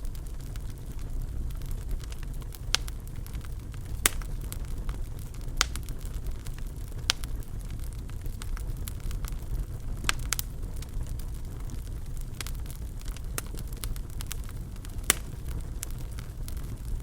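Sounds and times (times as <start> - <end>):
sharp fire pops: 0.0 - 17.0
wood fire crackling: 0.0 - 17.0.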